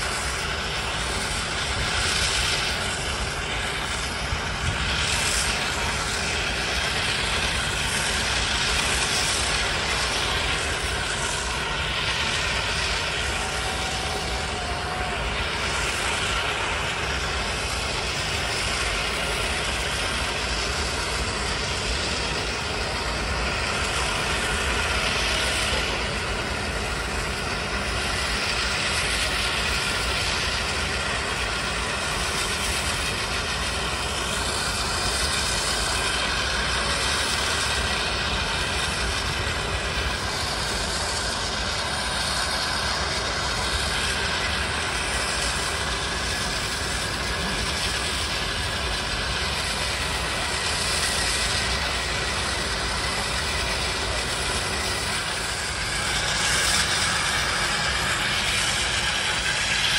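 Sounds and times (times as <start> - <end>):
firebox rushing noise: 0.0 - 59.9.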